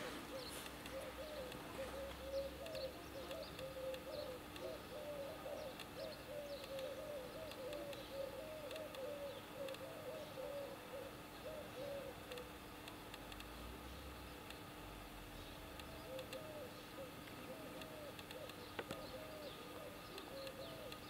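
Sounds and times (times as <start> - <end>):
bird hooting: 0.0 - 12.6, 15.4 - 21.0.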